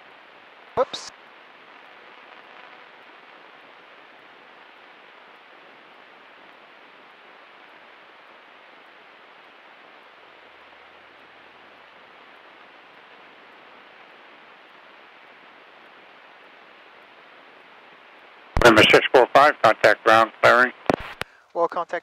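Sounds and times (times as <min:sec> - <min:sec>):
faint intercom hiss: 0:00.0 - 0:22.0.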